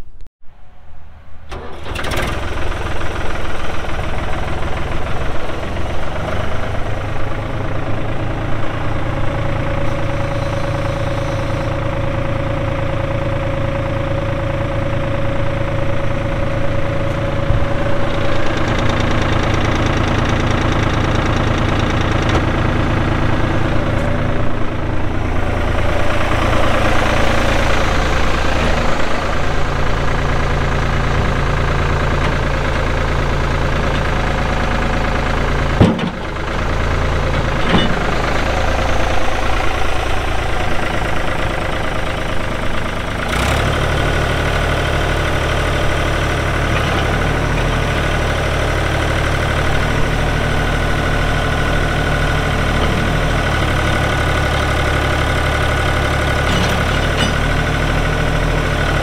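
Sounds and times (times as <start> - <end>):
tractor diesel engine running: 0.5 - 59.0.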